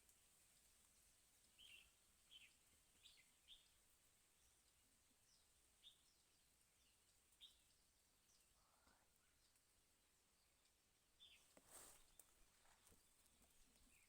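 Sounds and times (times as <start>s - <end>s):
background hiss: 0.0s - 14.0s
faint bird chirps: 1.5s - 3.8s, 4.4s - 14.0s.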